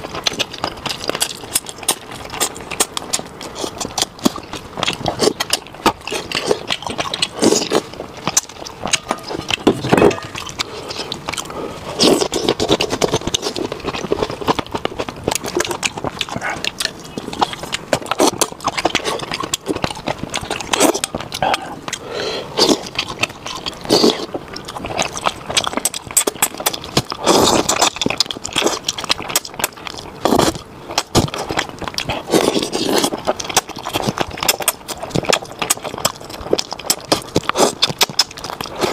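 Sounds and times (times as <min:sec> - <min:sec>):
slurping: 0:00.0 - 0:38.9
wet chewing and lip-smacking: 0:00.0 - 0:38.9.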